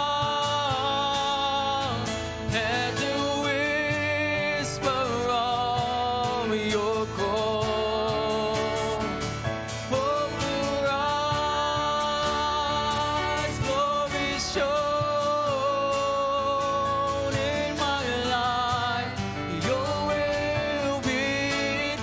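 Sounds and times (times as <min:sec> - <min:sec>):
acoustic guitar: 0:00.0 - 0:22.0
cajon: 0:00.0 - 0:22.0
keyboard: 0:00.0 - 0:22.0
man singing: 0:00.0 - 0:22.0.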